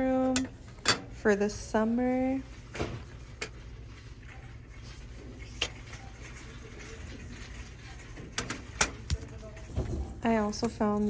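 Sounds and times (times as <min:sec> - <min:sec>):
low store hum: 0:00.0 - 0:11.0.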